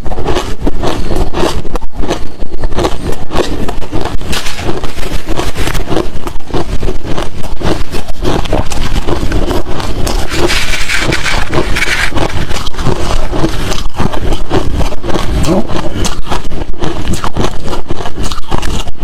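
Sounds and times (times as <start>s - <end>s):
ice being chewed: 0.0s - 19.0s.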